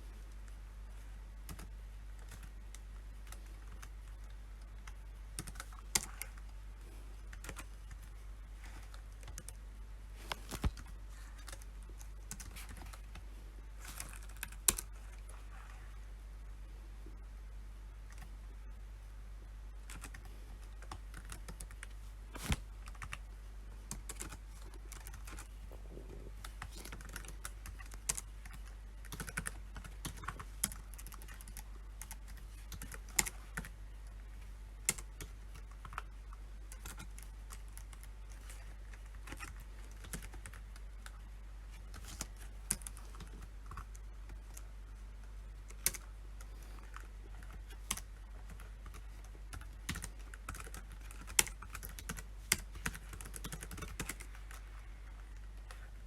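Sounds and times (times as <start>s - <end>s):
low steady hum: 0.0s - 56.0s
keyboard typing: 1.4s - 9.6s, 10.2s - 15.5s, 18.0s - 18.4s, 19.8s - 56.0s.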